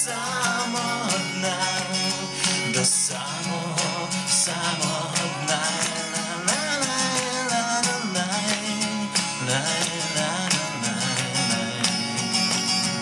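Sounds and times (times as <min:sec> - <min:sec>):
acoustic guitar strumming: 0:00.0 - 0:13.0
man singing wordlessly: 0:00.0 - 0:13.0.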